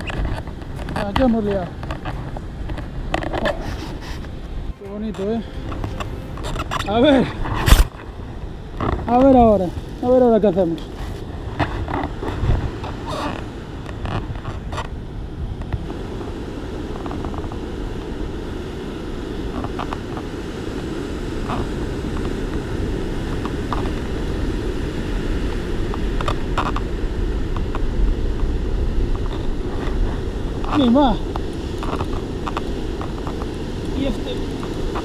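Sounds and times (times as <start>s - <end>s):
sea at the shore: 0.0s - 35.0s
wind on microphone: 0.0s - 35.0s.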